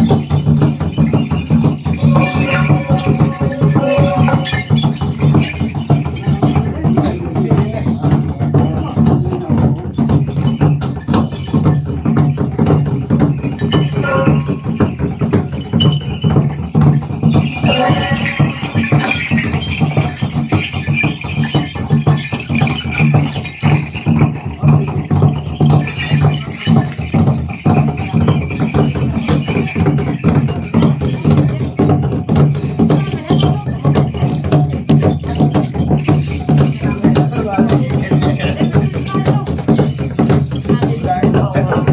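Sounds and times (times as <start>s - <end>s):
ritual percussion beating: 0.0s - 41.9s.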